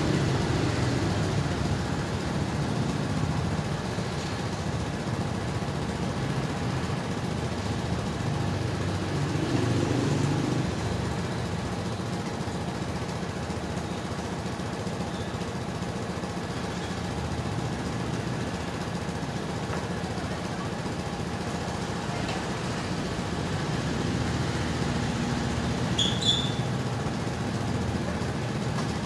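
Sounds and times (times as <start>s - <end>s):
motorbike engine running: 0.0s - 29.0s.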